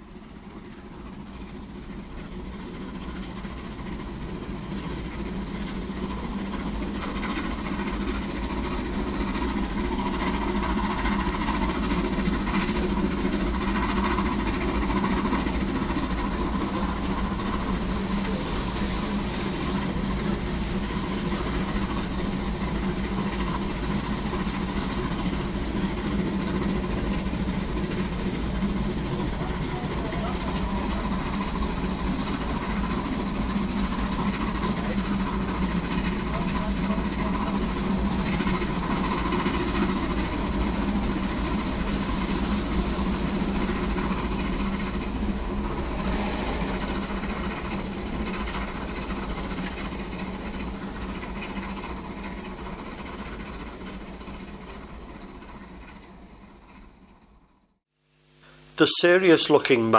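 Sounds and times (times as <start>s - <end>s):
train rumble: 0.0s - 57.8s.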